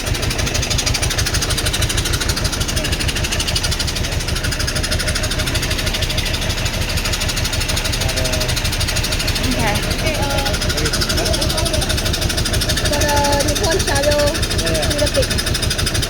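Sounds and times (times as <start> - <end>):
heavy engine clattering: 0.0 - 16.0.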